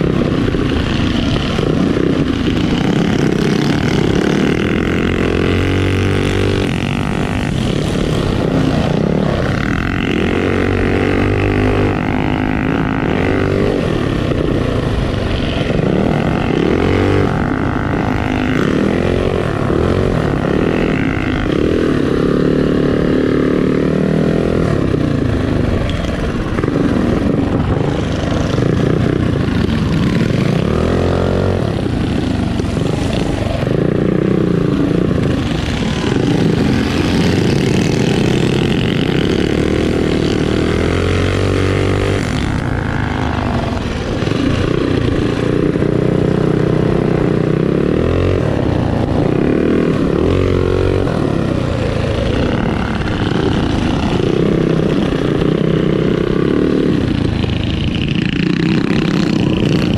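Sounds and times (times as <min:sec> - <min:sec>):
small motorbike engine revving: 0:00.0 - 0:59.9.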